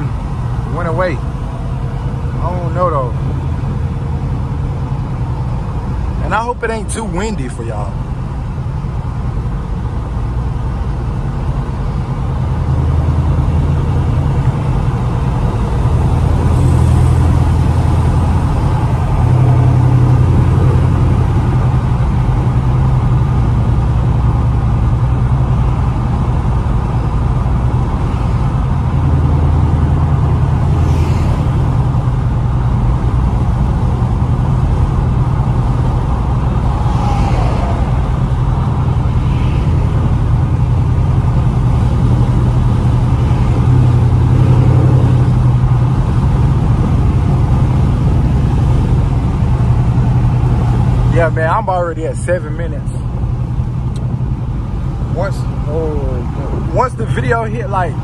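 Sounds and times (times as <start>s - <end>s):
car engine droning: 0.0s - 58.0s
road noise: 0.0s - 58.0s.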